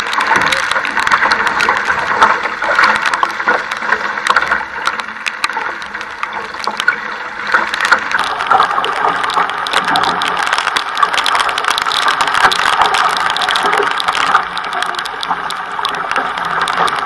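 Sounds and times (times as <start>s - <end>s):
water drops ticking on camera: 0.0s - 17.0s
water rushing along canoe hull: 0.0s - 17.0s.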